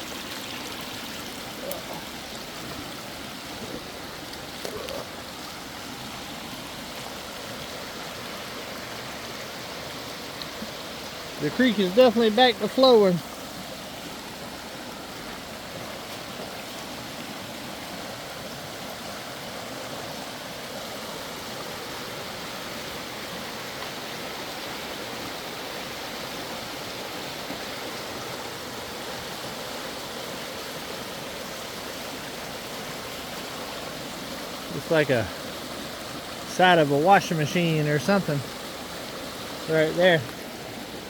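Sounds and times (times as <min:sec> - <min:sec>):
creek water flowing: 0:00.0 - 0:41.0.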